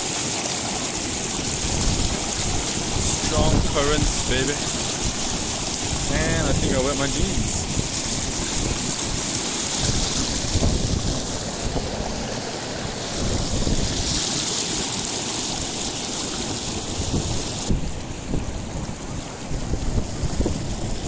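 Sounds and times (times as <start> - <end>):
water rushing and splashing: 0.0 - 21.0.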